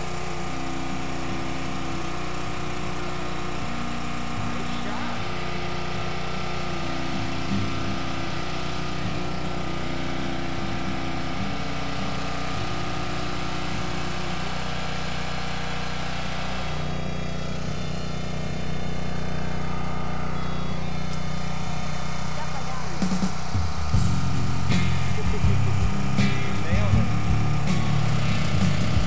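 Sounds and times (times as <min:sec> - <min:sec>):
small engine humming: 0:00.0 - 0:29.0.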